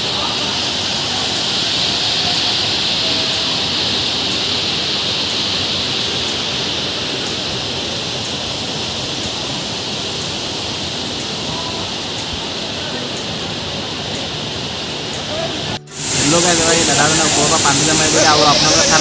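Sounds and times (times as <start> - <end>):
high hiss: 0.0 - 19.0
waterfall rushing: 0.0 - 19.0.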